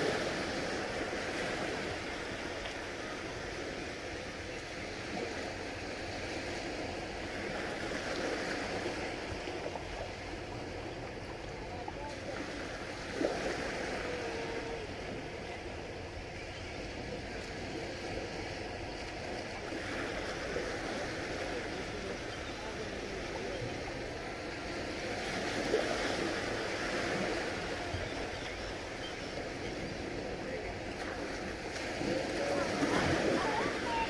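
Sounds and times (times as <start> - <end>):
small waves washing onto beach: 0.0 - 34.0.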